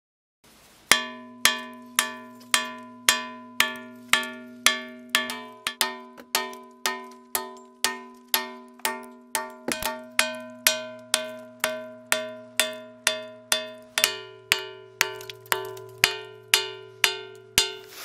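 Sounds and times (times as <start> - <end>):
hammer ringing on iron: 0.9 - 17.8.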